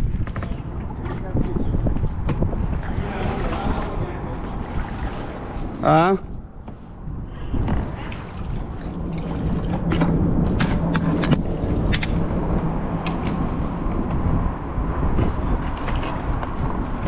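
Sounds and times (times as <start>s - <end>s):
water lapping around kayak: 0.0s - 17.0s
wind buffeting microphone: 0.0s - 17.0s.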